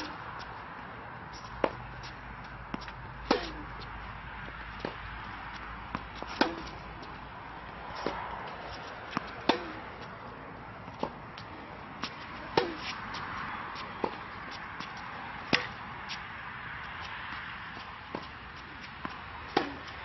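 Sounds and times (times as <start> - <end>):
tennis rackets hitting balls: 0.0 - 0.6, 1.2 - 16.3, 17.0 - 20.0
tennis balls bouncing: 1.3 - 16.2, 16.9 - 20.0.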